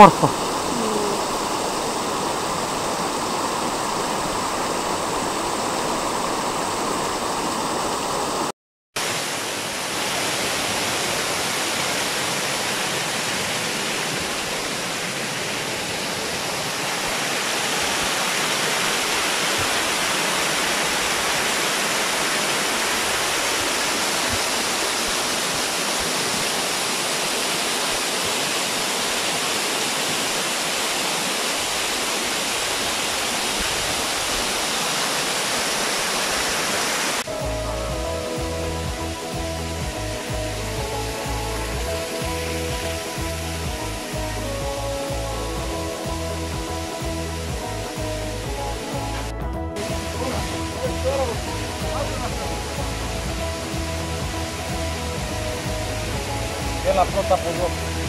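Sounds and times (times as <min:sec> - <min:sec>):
waterfall rushing water: 0:00.0 - 0:58.0.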